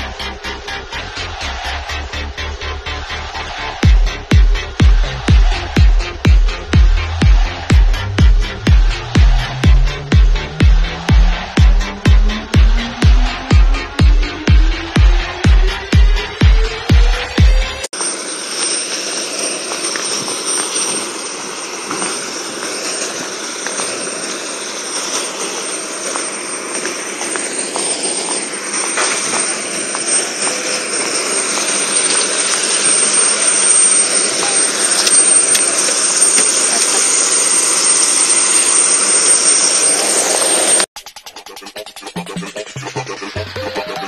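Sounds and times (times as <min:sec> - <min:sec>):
jet engines roaring with whine: 0:00.0 - 0:40.9.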